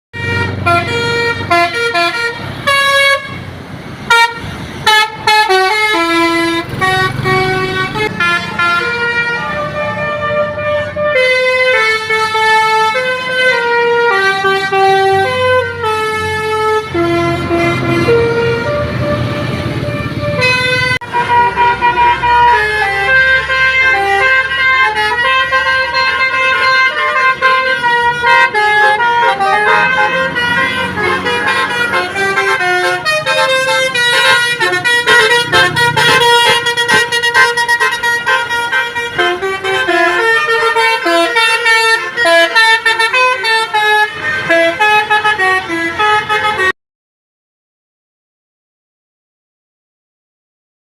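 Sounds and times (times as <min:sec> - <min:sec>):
multi-tone air horn melody: 0:00.1 - 0:03.5, 0:04.1 - 0:46.8.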